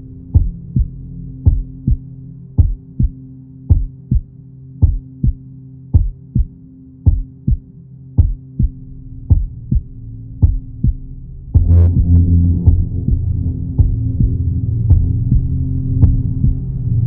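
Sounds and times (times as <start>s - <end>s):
low steady drone: 0.0s - 17.0s
heartbeat: 0.3s - 7.6s, 8.2s - 16.8s.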